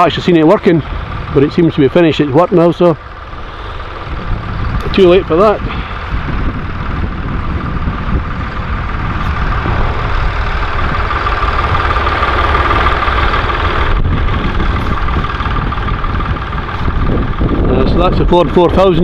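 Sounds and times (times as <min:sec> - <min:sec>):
steady whine: 0:00.0 - 0:19.0
tractor engine running: 0:00.0 - 0:19.0.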